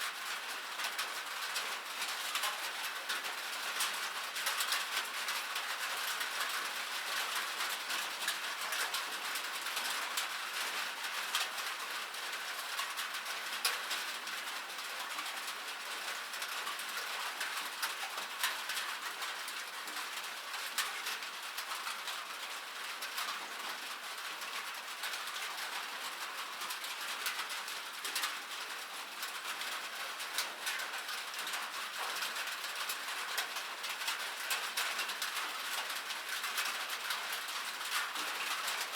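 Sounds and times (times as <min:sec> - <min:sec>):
rain pattering on metal: 0:00.0 - 0:38.9.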